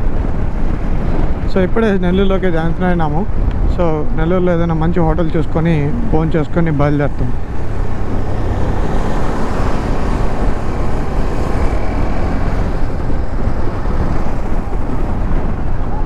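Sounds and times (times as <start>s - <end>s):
road noise: 0.0s - 16.0s
wind rush on microphone: 0.0s - 16.0s.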